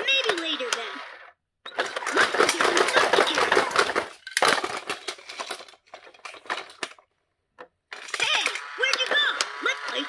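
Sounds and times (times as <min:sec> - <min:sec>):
toy rattling engine sound effect: 0:00.0 - 0:06.9, 0:07.9 - 0:10.0.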